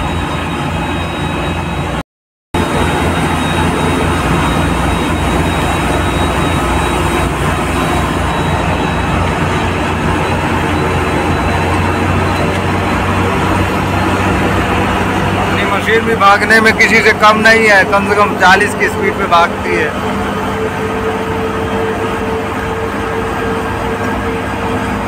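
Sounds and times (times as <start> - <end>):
diesel engine running: 0.0 - 2.0, 2.6 - 25.0
road noise: 0.0 - 2.0, 2.6 - 25.0.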